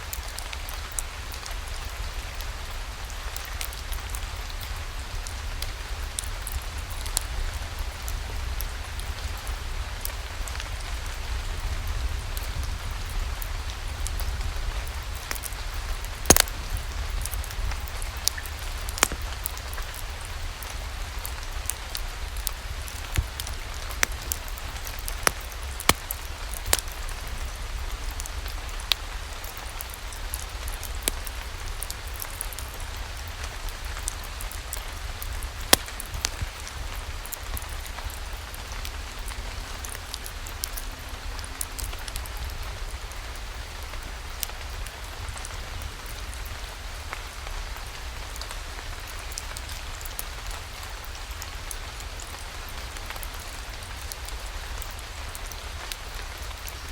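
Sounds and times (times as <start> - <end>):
wood fire crackling: 0.0 - 47.6, 48.3 - 56.9
steady rain falling: 0.0 - 56.9.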